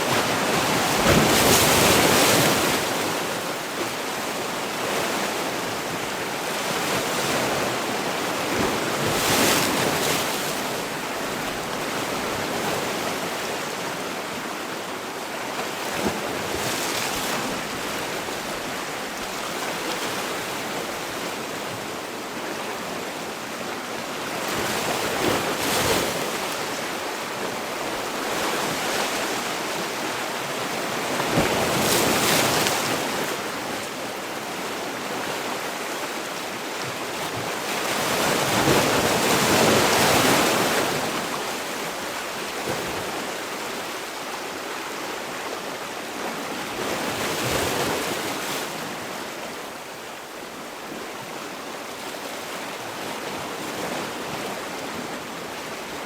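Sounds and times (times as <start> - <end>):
waves washing on shore: 0.0 - 56.0.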